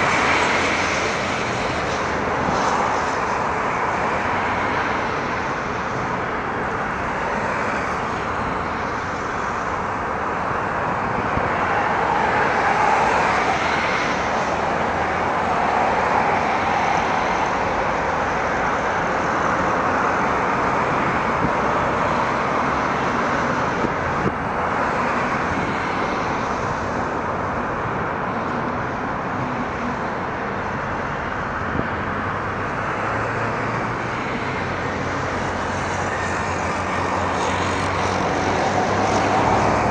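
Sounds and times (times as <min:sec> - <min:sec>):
jet engines: 0:00.0 - 0:39.9.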